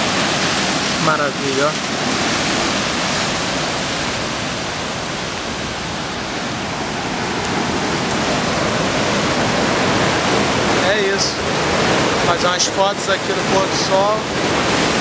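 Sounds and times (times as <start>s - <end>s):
surf breaking on rocky shore: 0.0s - 15.0s.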